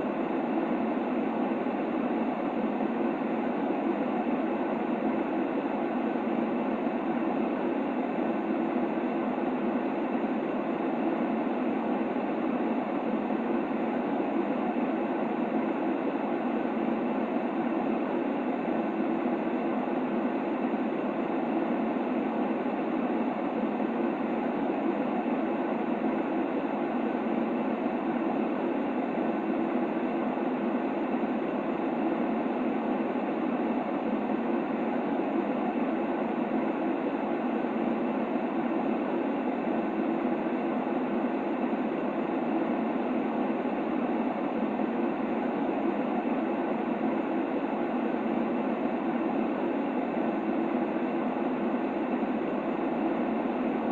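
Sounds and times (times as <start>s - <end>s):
muffled white noise: 0.0s - 53.9s.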